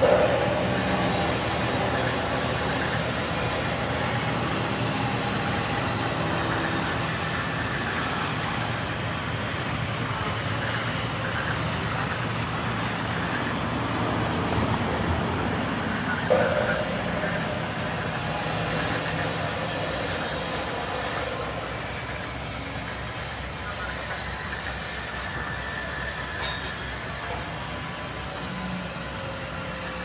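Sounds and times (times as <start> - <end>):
band sawmill humming: 0.0 - 30.0.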